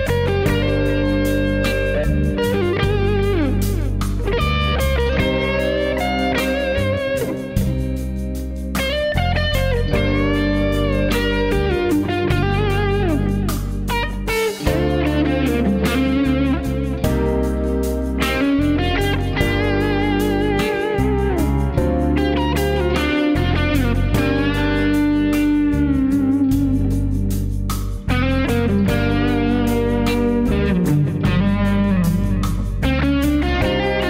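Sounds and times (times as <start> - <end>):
bass notes: 0.0 - 34.0
electric guitar blues lead: 0.0 - 34.0.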